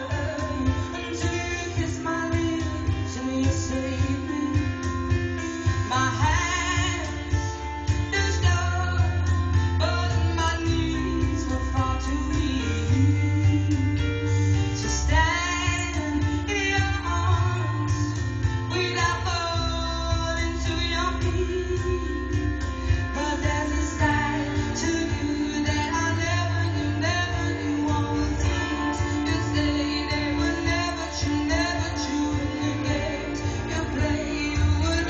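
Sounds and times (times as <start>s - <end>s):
woman singing: 0.0s - 4.9s, 5.8s - 14.2s, 14.8s - 35.0s
band music through speakers: 0.0s - 35.0s.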